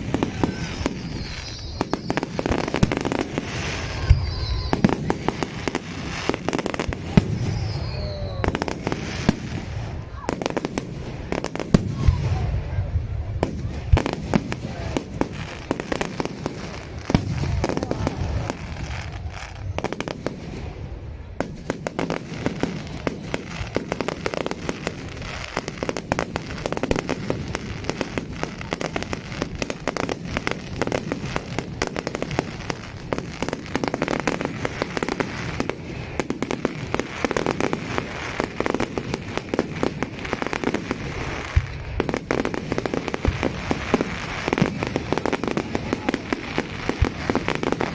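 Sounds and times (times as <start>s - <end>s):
fireworks banging and crackling: 0.0s - 47.9s.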